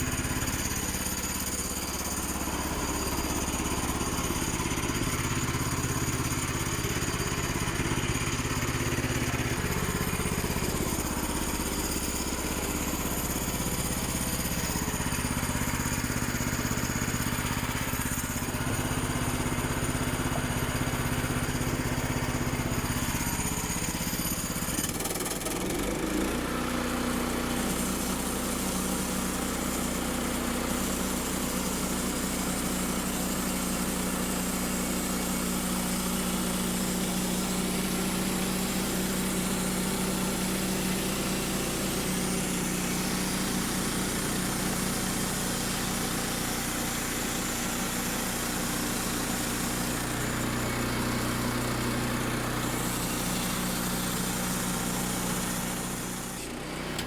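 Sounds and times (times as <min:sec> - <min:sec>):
sawmill gasoline engine running: 0:00.0 - 0:57.0.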